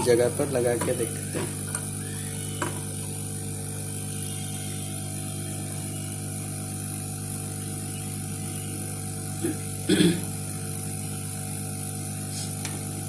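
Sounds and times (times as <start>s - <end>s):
hot-air blower hissing: 0.0s - 13.0s.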